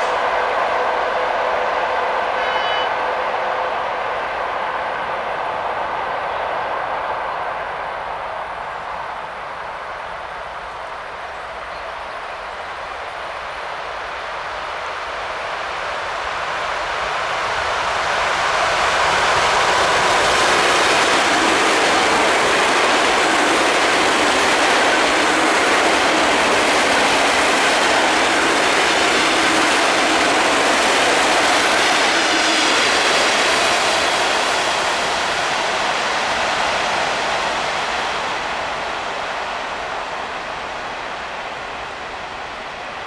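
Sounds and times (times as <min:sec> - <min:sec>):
electric train passing at speed: 0:00.0 - 0:43.0.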